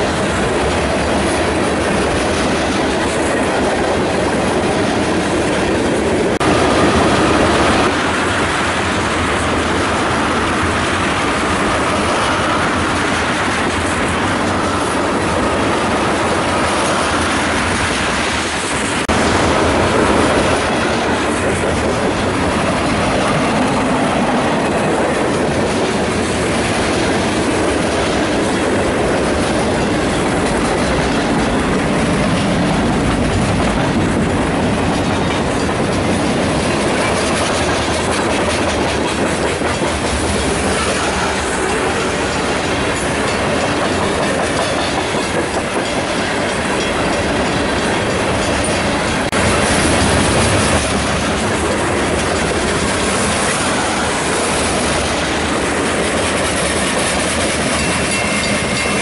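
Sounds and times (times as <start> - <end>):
freight train wheels clattering on rails: 0.0 - 59.0.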